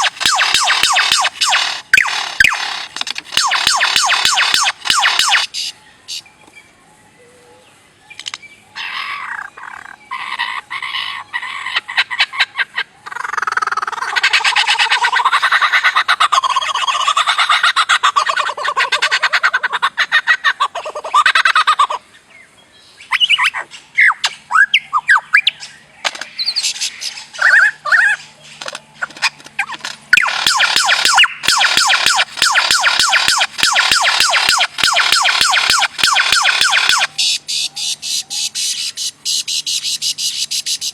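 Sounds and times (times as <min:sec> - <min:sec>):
bird squawking and chattering: 0:00.0 - 0:06.2, 0:08.8 - 0:22.1, 0:23.0 - 0:40.9.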